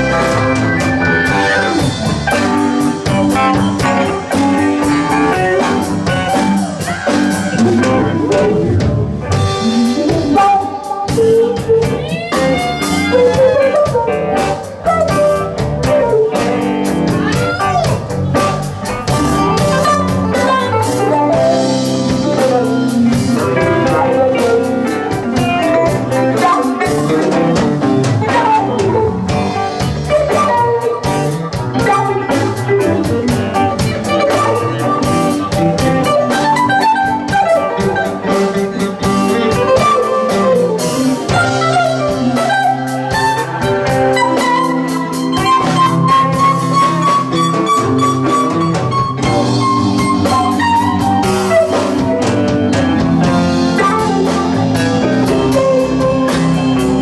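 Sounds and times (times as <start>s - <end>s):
electric guitar lead: 0.0s - 57.0s
live band playing: 0.0s - 57.0s.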